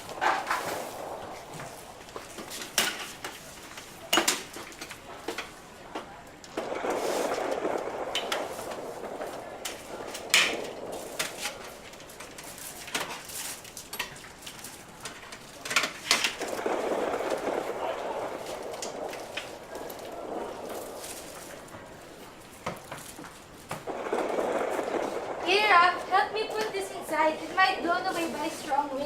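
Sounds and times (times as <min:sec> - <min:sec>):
steady rustling: 0:00.0 - 0:29.0.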